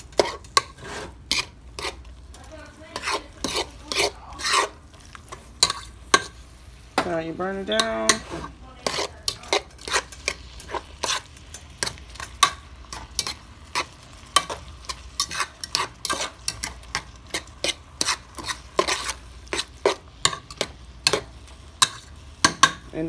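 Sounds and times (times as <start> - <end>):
metal utensil scraping a pan: 0.0 - 22.9
faint sizzle: 0.0 - 23.0.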